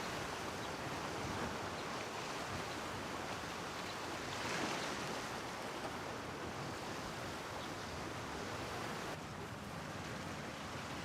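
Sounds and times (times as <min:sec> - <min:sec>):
rushing outdoor ambient noise: 0:00.0 - 0:11.0.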